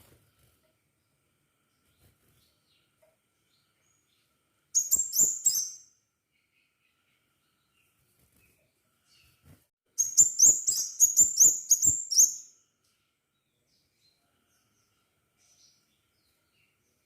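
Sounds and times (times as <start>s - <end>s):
bird chirping: 0.3s - 9.4s, 10.0s - 17.0s.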